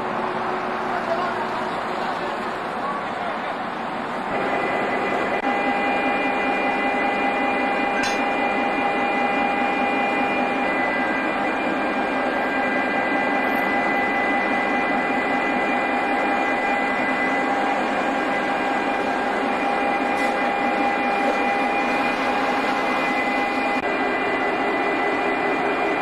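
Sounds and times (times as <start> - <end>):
aircraft turbine whine: 0.0 - 26.0.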